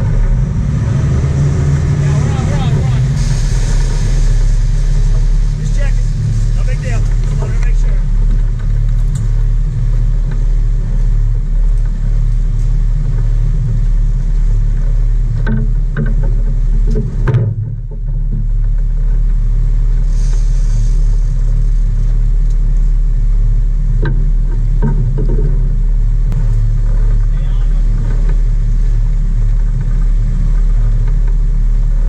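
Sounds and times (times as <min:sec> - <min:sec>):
boat engine drone: 0:00.0 - 0:32.0
wake water wash: 0:00.0 - 0:32.0.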